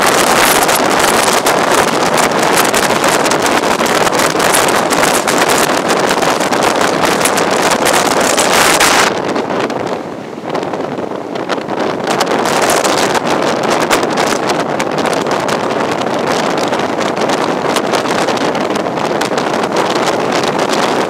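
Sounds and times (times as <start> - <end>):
train running noise: 0.0 - 21.0
wind buffeting microphone: 0.0 - 21.0.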